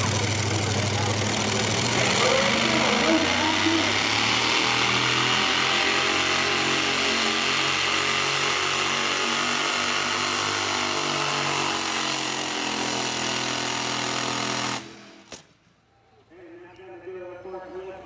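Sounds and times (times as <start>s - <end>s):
truck engine at full throttle: 0.0s - 15.5s.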